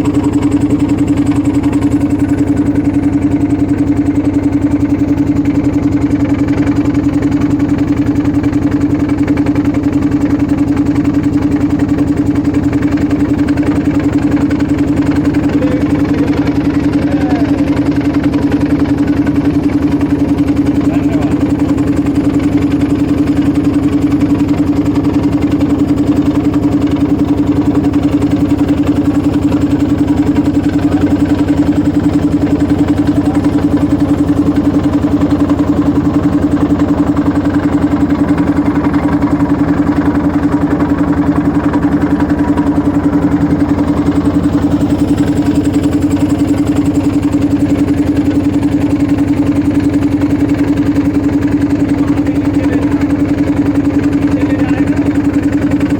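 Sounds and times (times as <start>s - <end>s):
motorboat engine humming: 0.0s - 55.9s.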